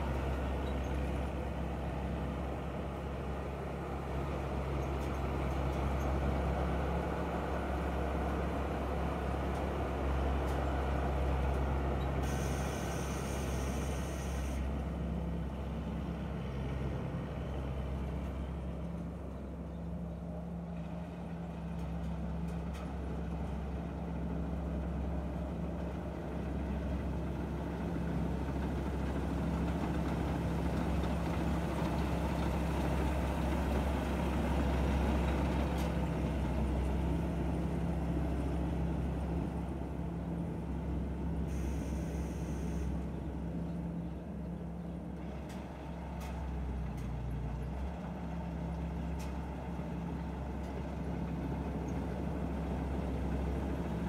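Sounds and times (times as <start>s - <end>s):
combine harvester engine: 0.0s - 54.0s.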